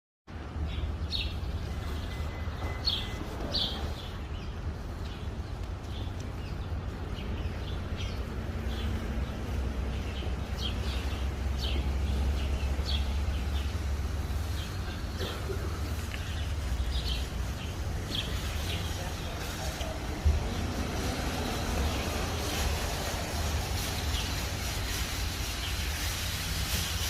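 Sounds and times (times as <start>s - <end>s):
small birds chirping: 0.6s - 27.0s.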